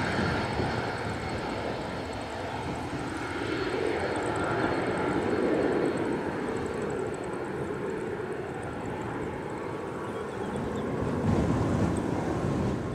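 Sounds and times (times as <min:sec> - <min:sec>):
jet engines rushing at takeoff: 0:00.0 - 0:12.9.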